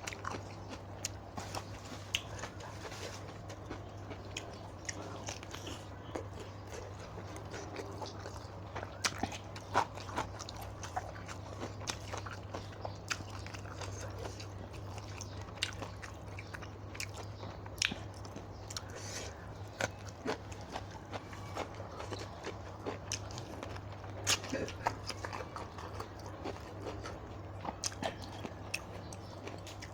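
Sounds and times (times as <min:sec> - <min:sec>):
person chewing crunchy food: 0:00.0 - 0:29.9.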